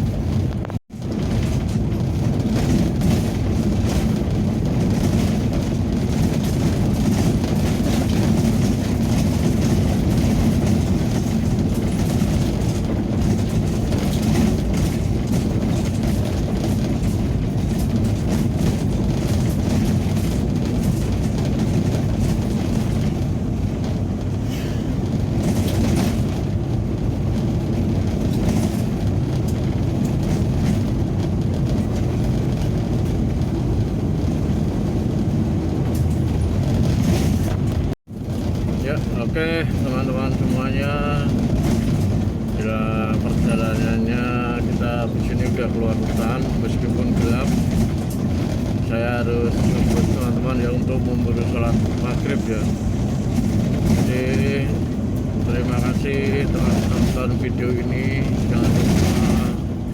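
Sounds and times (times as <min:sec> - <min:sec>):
knocks and rattles: 0:00.0 - 0:59.9
vehicle engine and tyre noise: 0:00.0 - 0:59.9.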